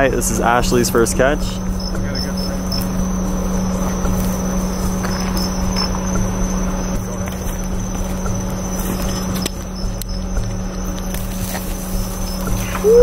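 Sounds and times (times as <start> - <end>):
high insect trill: 0.0 - 13.0
vehicle engine idling: 0.0 - 13.0
footsteps through tall grass: 1.6 - 13.0.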